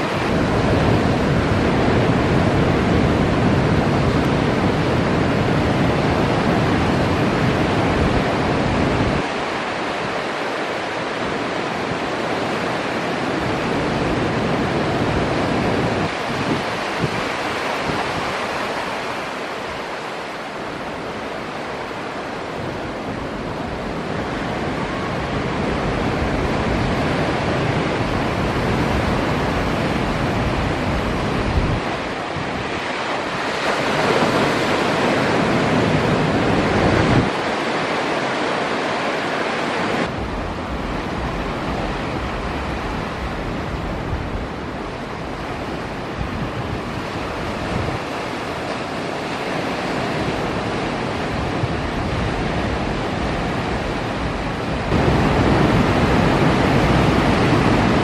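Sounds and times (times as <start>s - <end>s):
waves breaking: 0.0s - 58.0s
wind on microphone: 0.0s - 58.0s.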